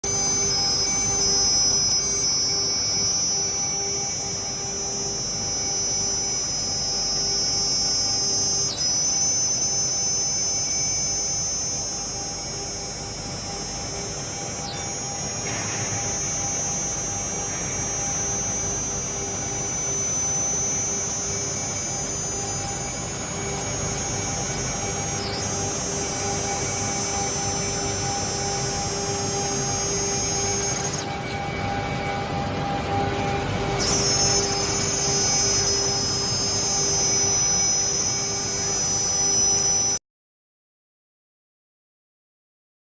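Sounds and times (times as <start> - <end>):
machine hum: 0.0 - 40.0
spindle whine: 0.0 - 40.0.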